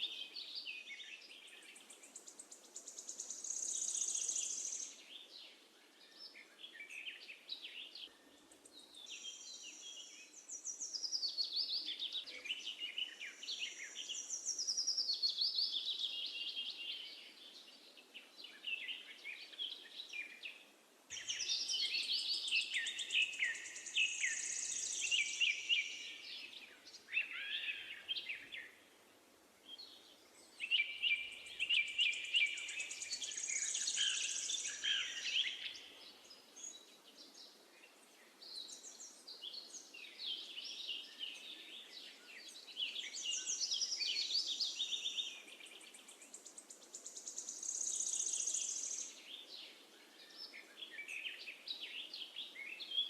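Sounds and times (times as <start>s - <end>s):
faint steady hiss: 0.0s - 53.0s
songbirds chirping and trilling: 0.0s - 53.0s.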